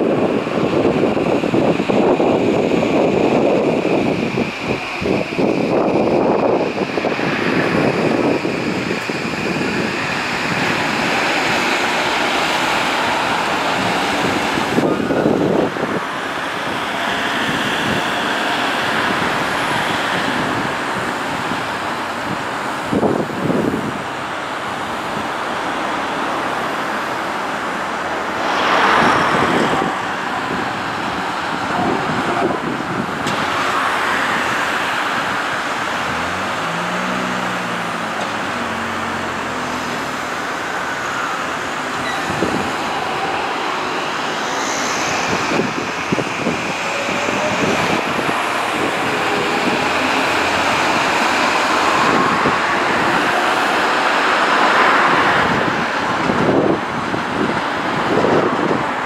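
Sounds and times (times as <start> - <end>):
traffic noise: 0.0 - 59.0
wind: 0.0 - 59.0.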